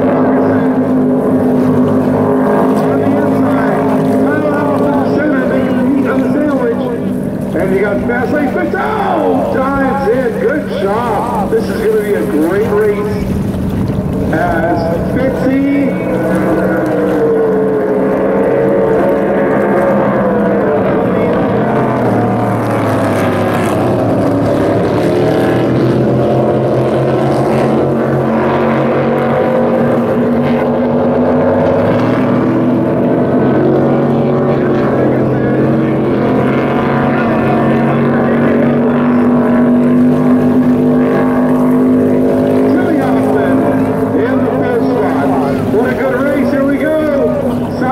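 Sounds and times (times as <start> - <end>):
race boat engines droning: 0.0 - 47.9.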